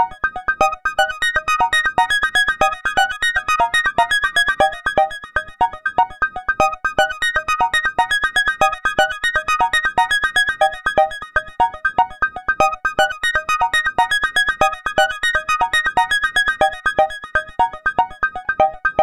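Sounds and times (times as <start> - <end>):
synthesizer ringtone melody: 0.0 - 19.0.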